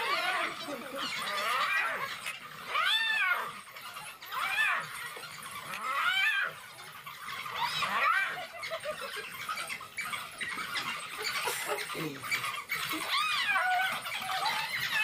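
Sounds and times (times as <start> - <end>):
animals squealing: 0.0 - 15.0
faint yelps: 0.0 - 15.0.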